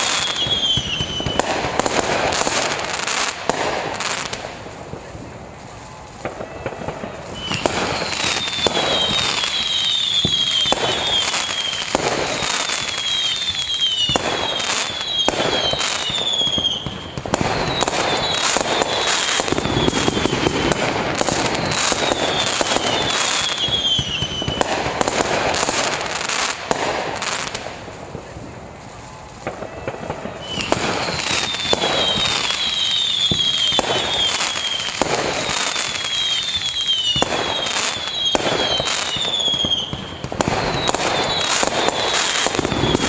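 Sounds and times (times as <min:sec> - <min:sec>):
falling firework whistles: 0:00.0 - 0:43.0
fireworks bangs and crackles: 0:00.0 - 0:43.0.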